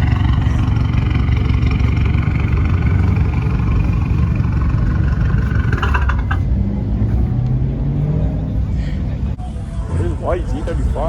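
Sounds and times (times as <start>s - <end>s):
car engine exhaust rumble: 0.0s - 11.0s.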